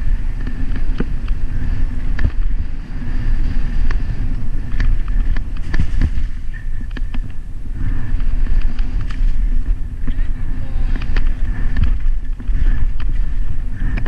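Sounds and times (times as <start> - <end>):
bike rattling: 0.0 - 14.0
wind noise on microphone: 0.0 - 14.0.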